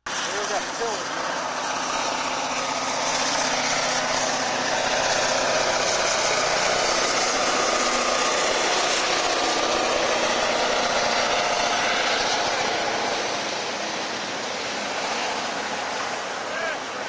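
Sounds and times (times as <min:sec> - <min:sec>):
diesel locomotive engines: 0:00.0 - 0:17.0.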